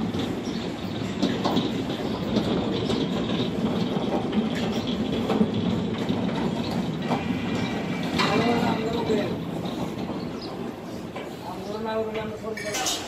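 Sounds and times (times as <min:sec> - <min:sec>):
log carriage rolling on rails: 0:00.0 - 0:13.0.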